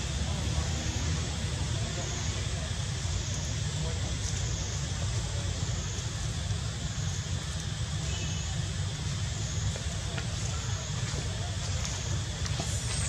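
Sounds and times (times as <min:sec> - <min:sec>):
hiss: 0:00.2 - 0:13.0.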